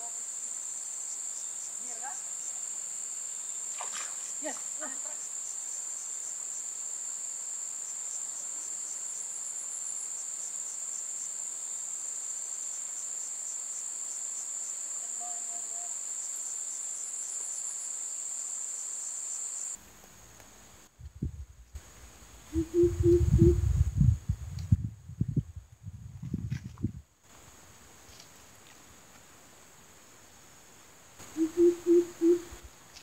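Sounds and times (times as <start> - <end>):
insects trilling: 0.0 - 20.9, 21.8 - 23.9, 27.2 - 33.0.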